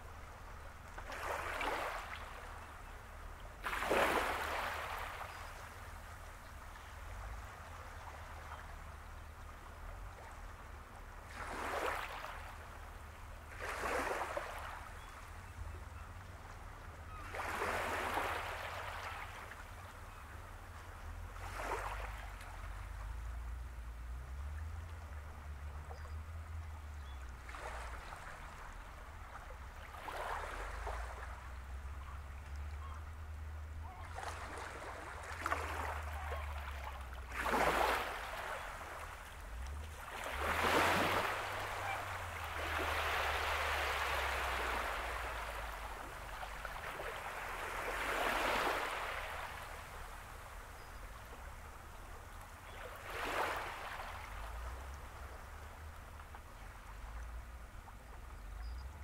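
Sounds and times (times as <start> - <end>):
small waves washing on shore: 0.0 - 59.0.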